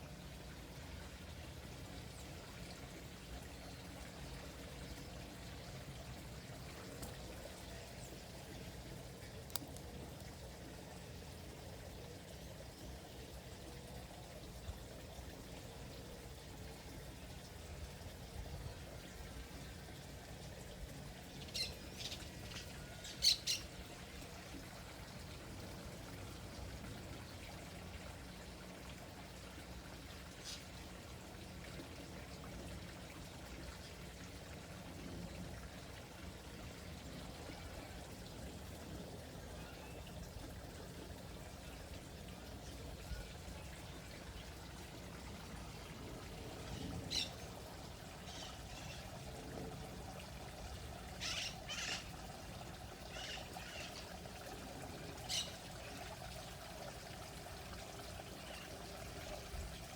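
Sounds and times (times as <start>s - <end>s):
faint running water: 0.0s - 59.9s.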